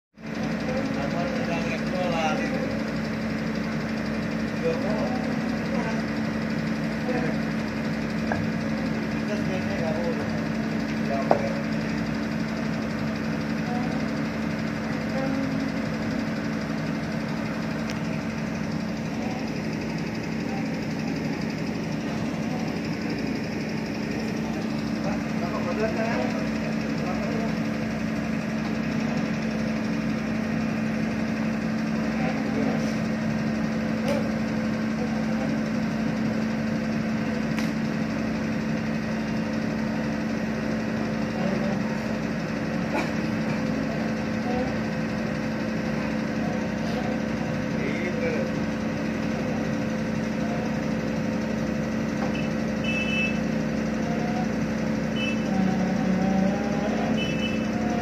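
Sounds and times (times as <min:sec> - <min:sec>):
heavy diesel engine running: 0:00.2 - 0:58.0.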